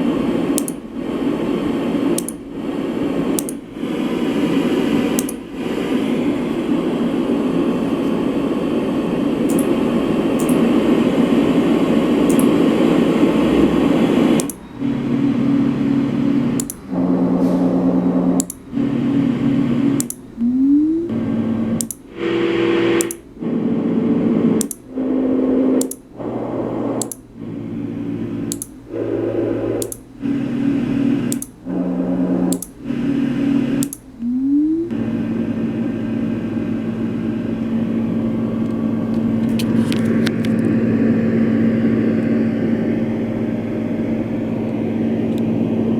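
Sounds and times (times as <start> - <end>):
low hum: 0.0 - 45.9
white noise machine rushing: 0.0 - 45.9.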